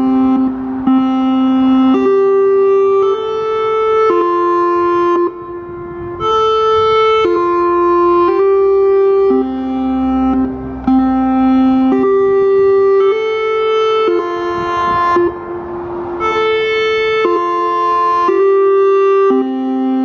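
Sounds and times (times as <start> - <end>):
electronic siren chimes: 0.0 - 20.0.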